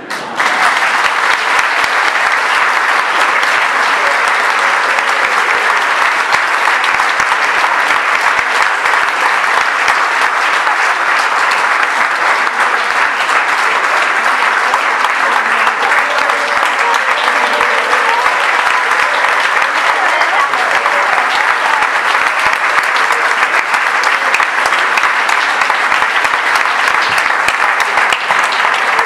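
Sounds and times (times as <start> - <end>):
audience applauding: 0.0 - 29.0.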